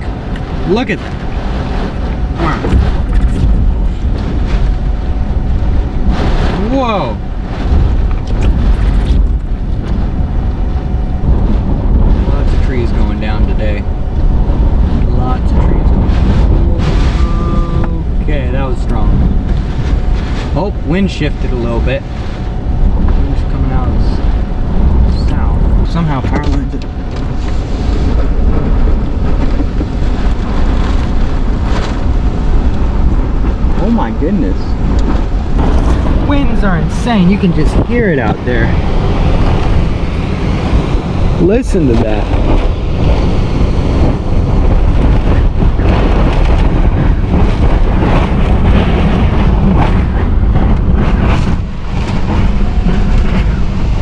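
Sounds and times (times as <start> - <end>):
hurricane wind rushing: 0.0 - 54.0
wind buffeting microphone: 0.0 - 54.0.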